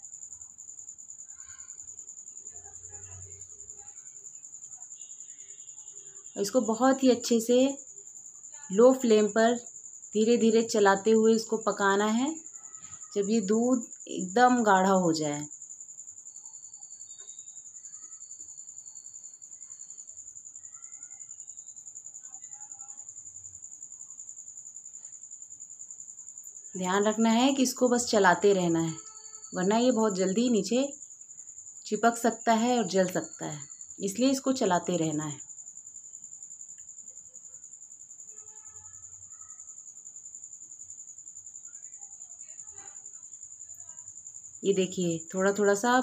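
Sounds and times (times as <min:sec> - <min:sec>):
cricket chirping: 0:00.0 - 0:46.0
insect trilling: 0:00.0 - 0:46.0.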